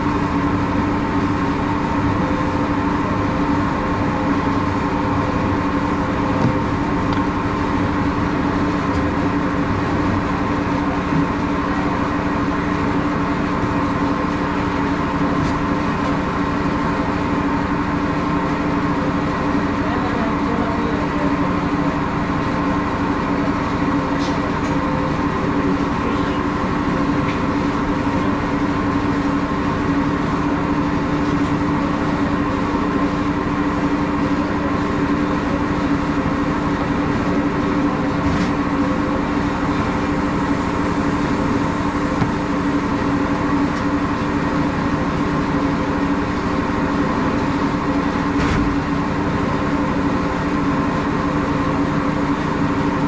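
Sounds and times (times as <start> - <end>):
constant hum: 0.0 - 53.0
machinery droning: 0.0 - 53.0.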